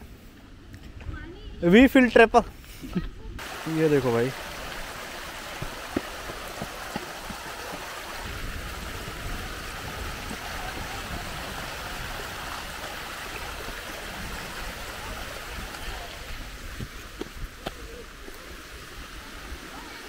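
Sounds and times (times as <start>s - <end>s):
stream rushing over rocks: 3.4s - 20.0s.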